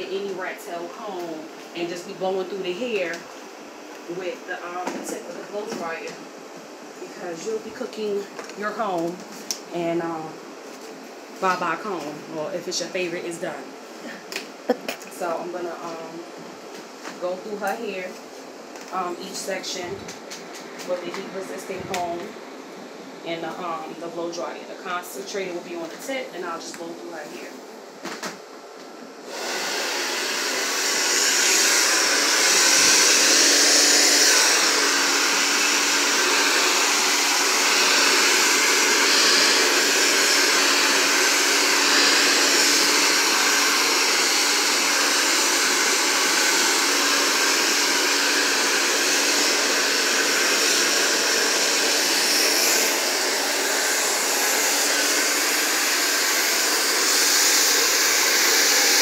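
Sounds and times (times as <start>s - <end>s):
hair dryer blowing air: 0.0s - 27.2s, 29.2s - 59.0s.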